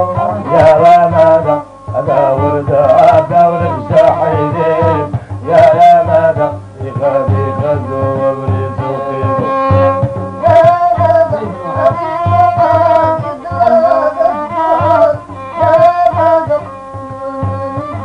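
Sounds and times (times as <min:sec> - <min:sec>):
hand-struck frame drums: 0:00.0 - 0:18.0
violin melody: 0:00.0 - 0:18.0.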